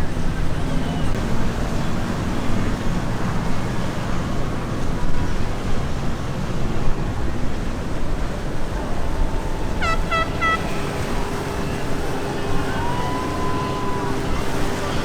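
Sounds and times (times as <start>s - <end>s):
boat engines rumbling: 0.0s - 15.0s
churning wake water: 0.0s - 15.0s.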